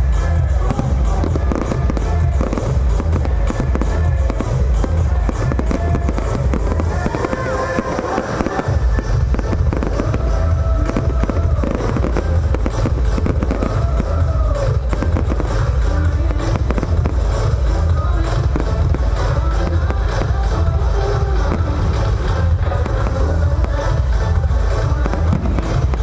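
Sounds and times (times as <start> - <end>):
fireworks bursting and crackling: 0.0 - 26.0
loud music with bass beat: 0.0 - 26.0.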